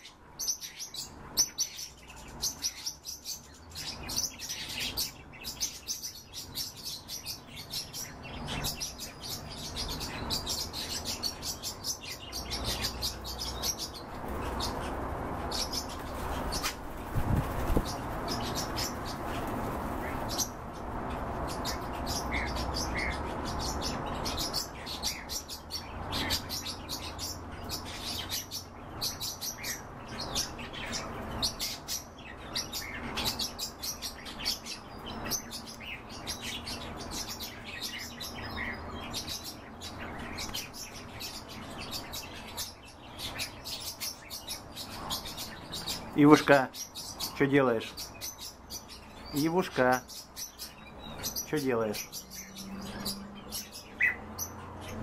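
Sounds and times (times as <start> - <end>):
cage birds chirping: 0.0 - 55.0.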